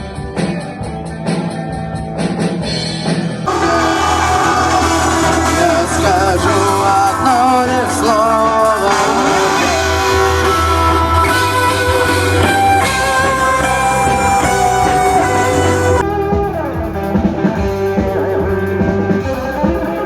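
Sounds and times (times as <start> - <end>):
bass guitar: 0.0 - 20.0
electric guitar melody with bends: 0.0 - 20.0
rock drums: 0.0 - 20.0.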